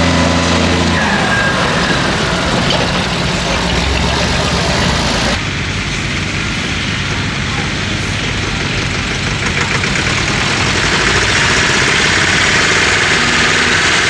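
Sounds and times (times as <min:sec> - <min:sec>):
tractor engine running loudly: 0:00.0 - 0:14.0.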